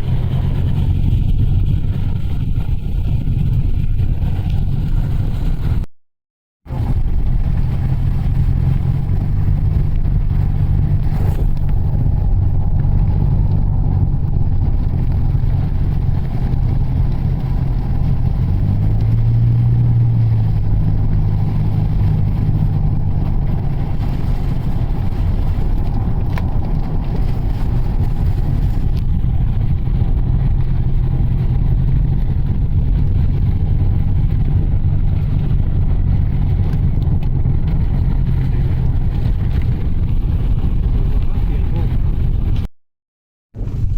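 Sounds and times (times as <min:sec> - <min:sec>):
engine drone inside car: 0:00.0 - 0:05.9, 0:06.7 - 0:42.7, 0:43.6 - 0:43.9
road noise: 0:00.0 - 0:05.9, 0:06.7 - 0:42.7, 0:43.6 - 0:43.9.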